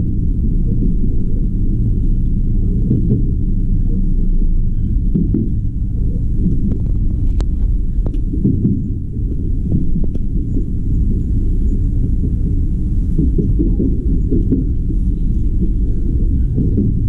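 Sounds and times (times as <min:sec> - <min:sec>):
train running low rumble: 0:00.0 - 0:17.0.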